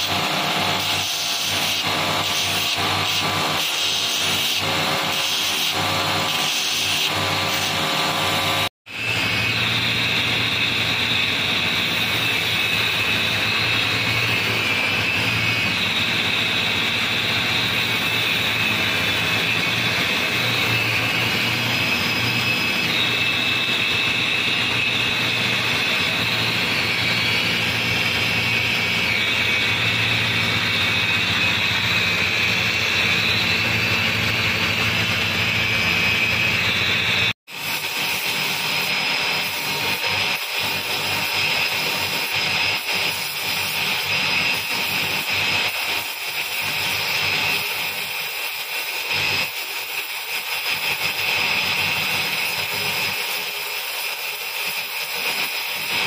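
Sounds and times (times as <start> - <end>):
belt sander whirring: 0.0 - 56.0.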